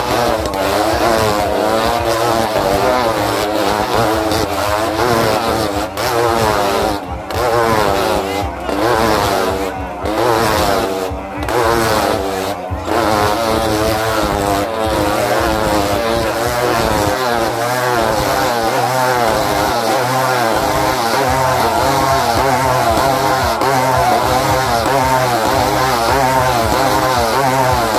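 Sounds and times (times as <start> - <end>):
motorcycle engines rising and falling: 0.0 - 27.9.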